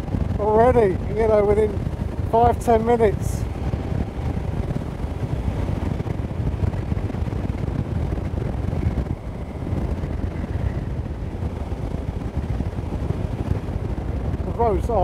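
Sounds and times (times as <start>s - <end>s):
motorcycle engine drone: 0.0s - 15.0s
wind buffeting microphone: 0.0s - 15.0s.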